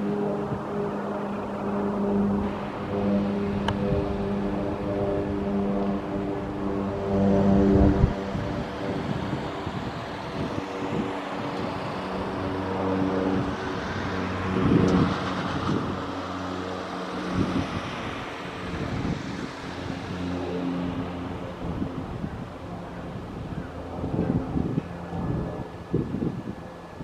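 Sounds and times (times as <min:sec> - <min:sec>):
propeller plane flying overhead: 0:00.0 - 0:27.0.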